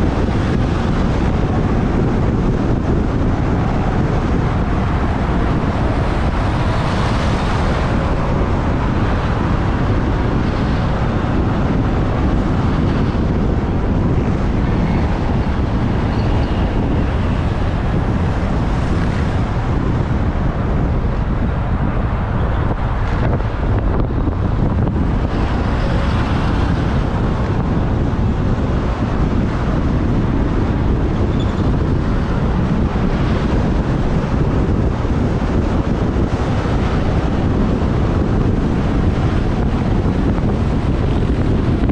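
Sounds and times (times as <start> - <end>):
road traffic: 0.0 - 41.9
wind rushing over microphone: 0.0 - 41.9.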